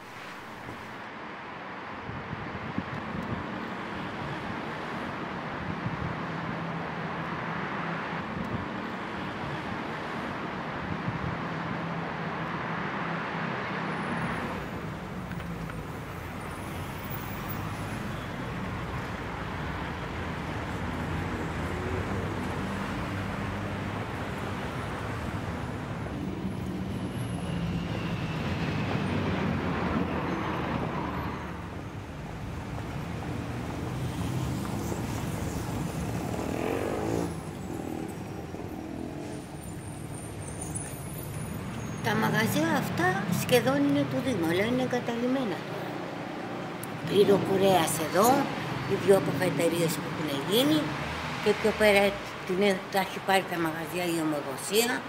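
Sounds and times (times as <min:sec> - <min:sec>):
passing cars traffic noise: 0:00.0 - 0:55.0.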